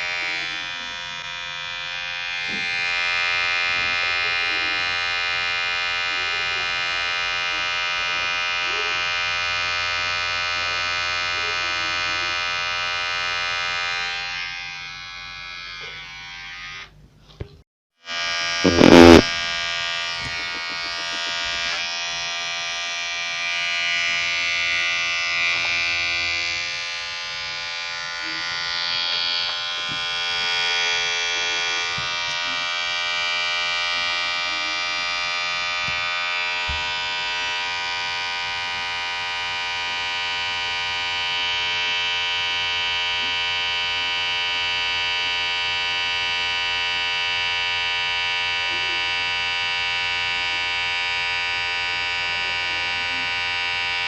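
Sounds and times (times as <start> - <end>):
electric hair clipper buzzing: 0.0 - 17.0, 18.0 - 54.0.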